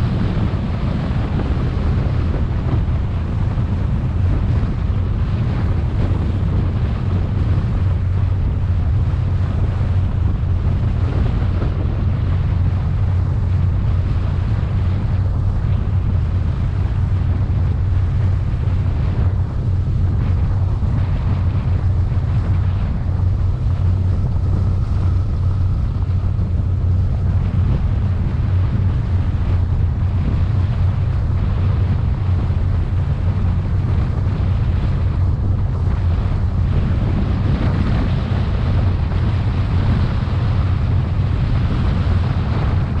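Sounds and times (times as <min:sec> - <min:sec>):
powerboat engines droning: 0:00.0 - 0:43.0
water noise from hull: 0:00.0 - 0:43.0
wind buffeting microphone: 0:00.0 - 0:43.0.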